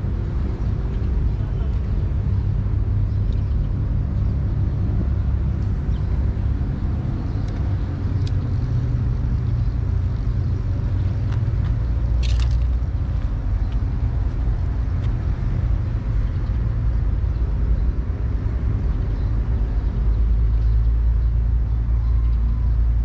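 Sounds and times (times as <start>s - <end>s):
low engine-like rumble: 0.0s - 23.0s.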